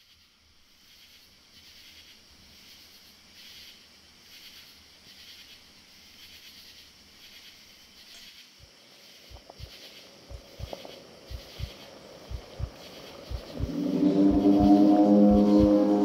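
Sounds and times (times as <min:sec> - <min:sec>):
night insects chirping: 0:00.0 - 0:16.0.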